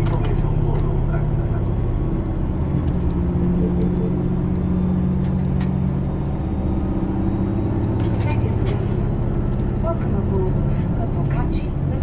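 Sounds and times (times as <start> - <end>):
diesel engine drone: 0.0 - 12.0
train running rumble: 0.0 - 12.0.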